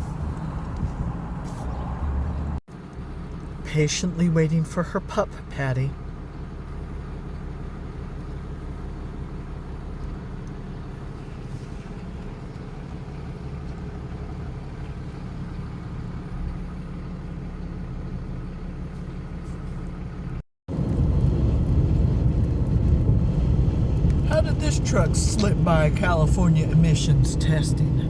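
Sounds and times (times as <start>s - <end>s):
diesel truck engine idling: 0.0s - 20.4s, 23.5s - 28.0s.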